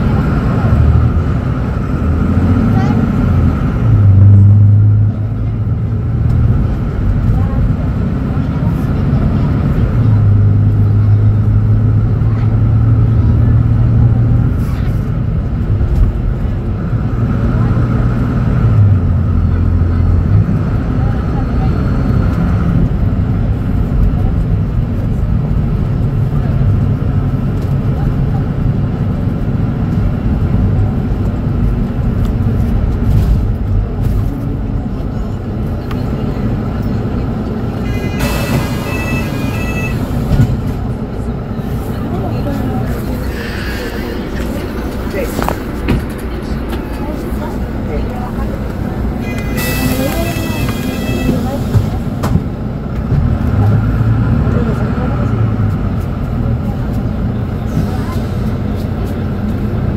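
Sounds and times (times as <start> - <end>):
diesel bus engine idling: 0.0 - 59.9.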